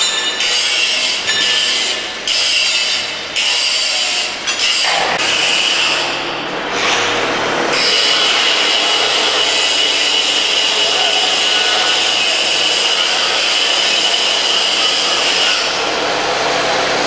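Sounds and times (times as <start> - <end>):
angle grinder cutting steel: 0.0 - 6.2, 7.7 - 17.0.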